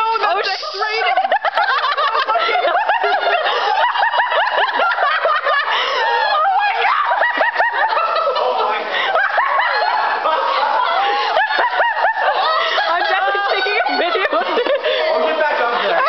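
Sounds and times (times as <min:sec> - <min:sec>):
people giggling: 0:00.0 - 0:16.0.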